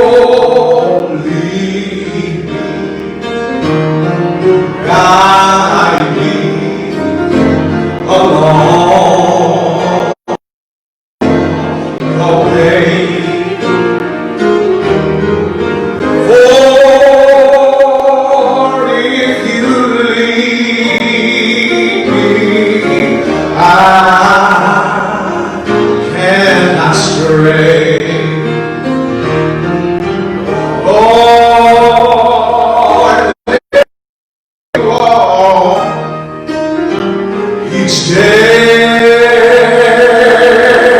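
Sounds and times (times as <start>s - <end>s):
gospel singing: 0.0s - 3.4s, 4.4s - 10.4s, 11.2s - 14.0s, 16.0s - 28.6s, 30.0s - 33.9s, 34.7s - 36.2s, 37.6s - 40.9s
instrumental accompaniment: 0.0s - 10.4s, 11.2s - 33.9s, 34.7s - 40.9s.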